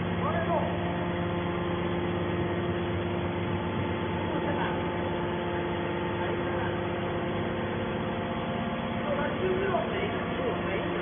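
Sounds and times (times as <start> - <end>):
hydraulic baler motor hum: 0.0 - 11.0.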